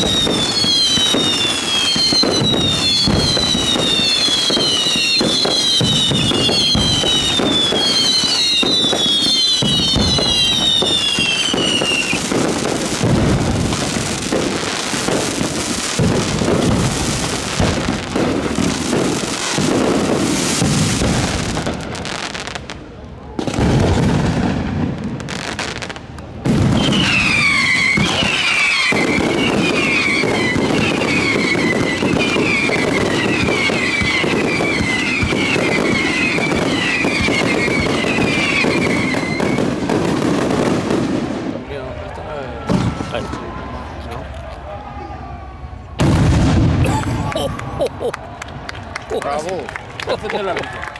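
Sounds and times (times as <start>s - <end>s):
fireworks crackling and banging: 0.0s - 44.8s, 45.6s - 50.9s
whistling fireworks: 0.0s - 50.9s.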